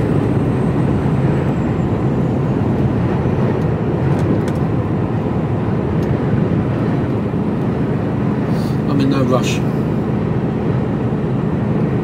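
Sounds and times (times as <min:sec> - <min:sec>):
diesel engine drone in lorry cab: 0:00.0 - 0:12.0
tyre and road noise: 0:00.0 - 0:12.0.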